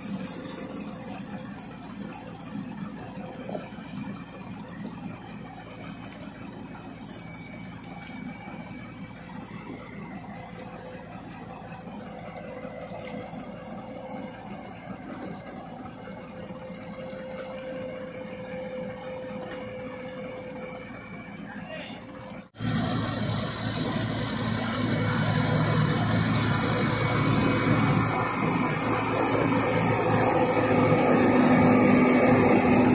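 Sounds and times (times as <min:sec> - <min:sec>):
diesel engines running: 0:00.0 - 0:32.9
tractor working through mud and water: 0:00.0 - 0:32.9.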